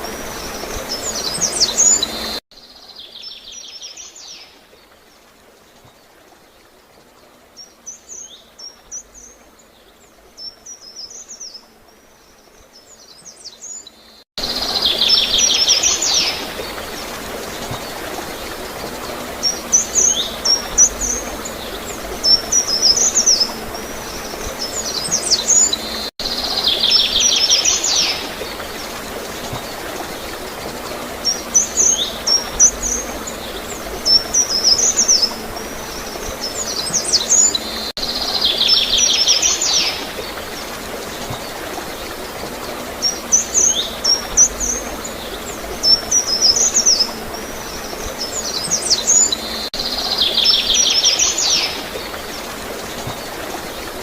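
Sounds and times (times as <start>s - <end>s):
flowing water gurgling: 0.0s - 54.0s
songbirds chirping and trilling: 0.0s - 54.0s.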